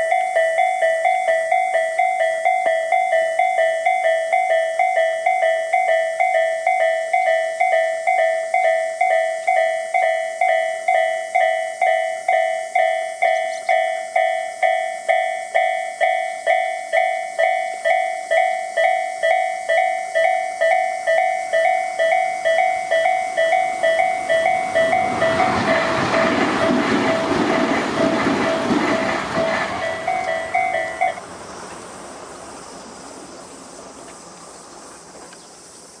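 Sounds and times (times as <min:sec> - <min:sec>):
level crossing warning bell: 0:00.0 - 0:31.2
train passing: 0:00.0 - 0:36.0.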